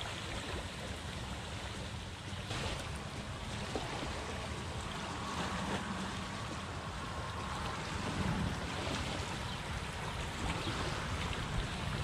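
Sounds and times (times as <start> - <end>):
small waves washing ashore: 0.0 - 12.0
wind rumbling on microphone: 0.0 - 12.0.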